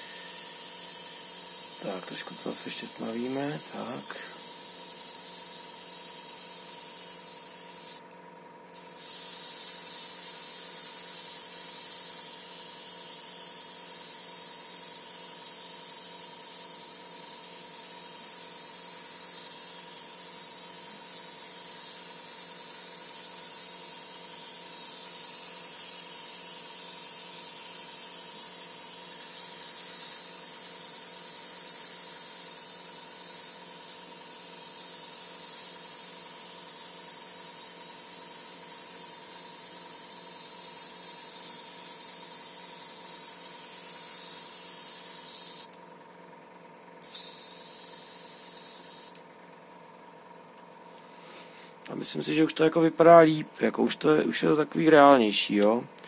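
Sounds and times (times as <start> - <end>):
airbrush hissing: 0.0 - 8.1, 8.7 - 45.8, 47.0 - 49.2.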